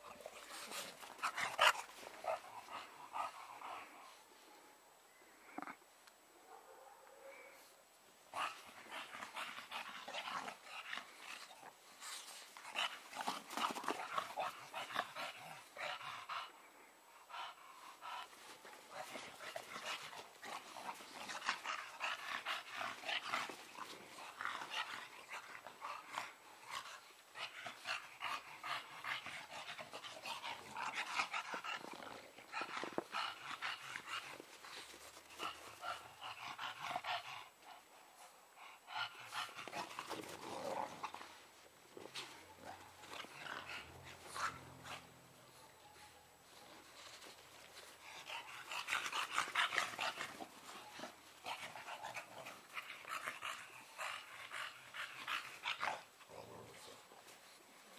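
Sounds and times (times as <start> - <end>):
puppies panting and growling: 0.0 - 4.3, 8.3 - 45.5, 46.6 - 57.9.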